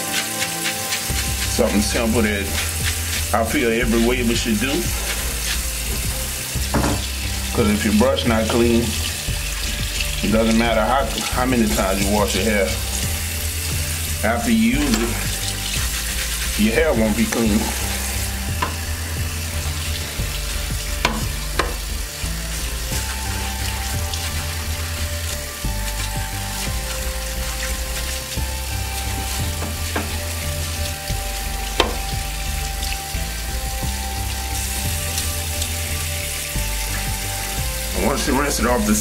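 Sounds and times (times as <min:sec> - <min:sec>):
background music with low bass: 0:00.0 - 0:39.0
brush bristles rubbed under water: 0:00.0 - 0:39.0
tap water running into sink: 0:00.0 - 0:39.0.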